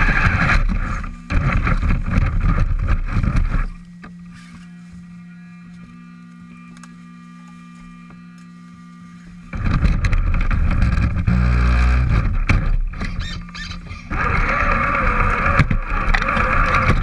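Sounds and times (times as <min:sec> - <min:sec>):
electric hum: 0:00.0 - 0:17.0
electric motor and gears whining: 0:00.0 - 0:17.0
tyres over dry leaves and rock: 0:00.0 - 0:17.0.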